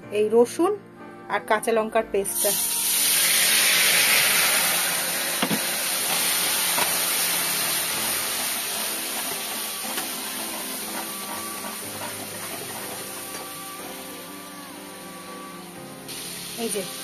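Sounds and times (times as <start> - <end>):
paste sizzling in hot oil: 2.4 - 15.0, 15.6 - 17.0.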